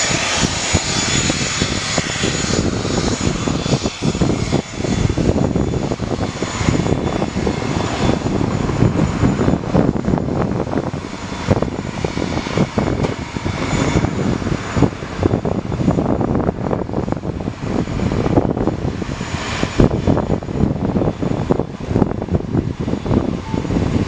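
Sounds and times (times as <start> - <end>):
turboprop engine whine and rumble: 0.0 - 24.0.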